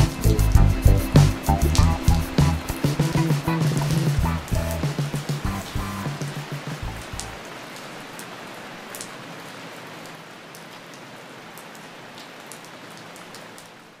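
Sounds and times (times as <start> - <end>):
steady rain hissing: 0.0 - 14.0.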